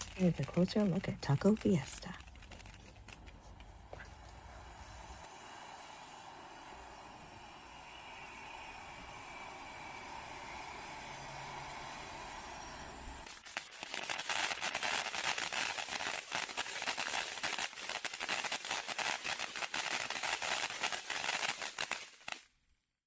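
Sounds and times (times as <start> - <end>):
firework fountain hissing: 0.0 - 22.5
firework crackles and pops: 0.0 - 22.6.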